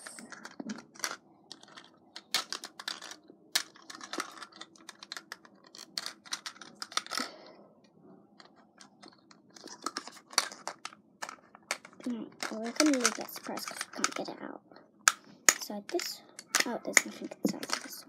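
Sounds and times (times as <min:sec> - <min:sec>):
plastic toy packaging crackling: 0:00.0 - 0:07.4, 0:08.4 - 0:14.3, 0:15.1 - 0:18.0.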